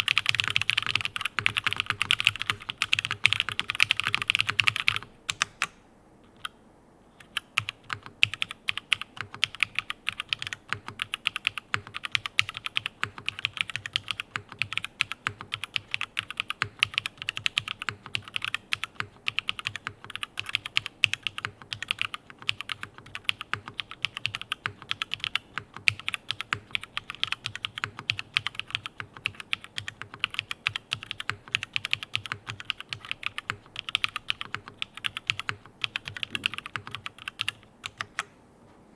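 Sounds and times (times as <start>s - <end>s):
mechanical keyboard typing: 0.0s - 6.6s, 7.2s - 38.3s.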